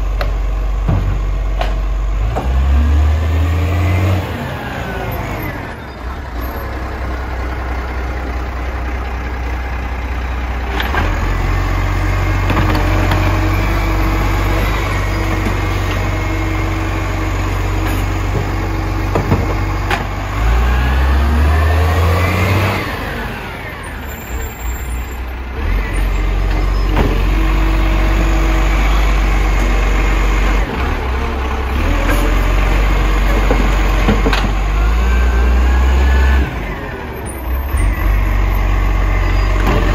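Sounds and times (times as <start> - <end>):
garbage truck engine revving: 0.8 - 39.9.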